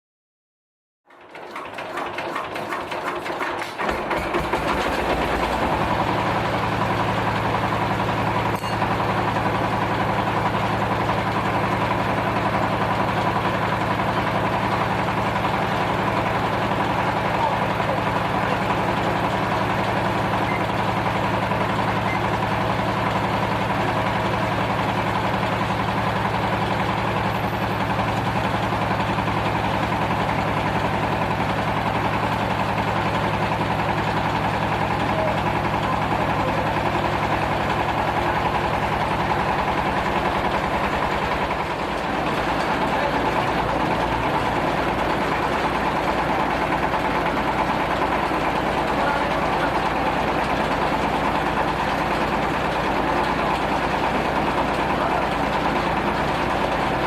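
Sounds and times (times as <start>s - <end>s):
stone crusher machine drone: 1.1s - 57.0s.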